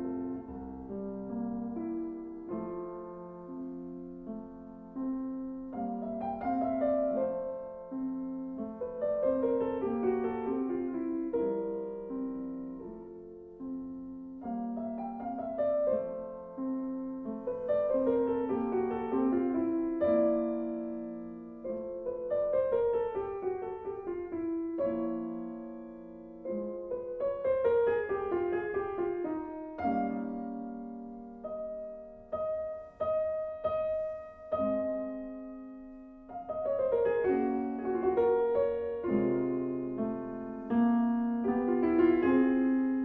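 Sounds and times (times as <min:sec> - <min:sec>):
gentle piano melody: 0:00.0 - 0:43.0.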